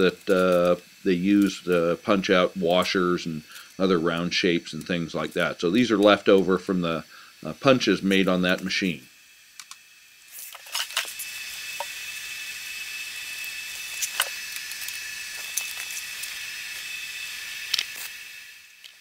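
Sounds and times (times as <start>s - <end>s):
steady hiss with high whine: 0.0s - 19.0s.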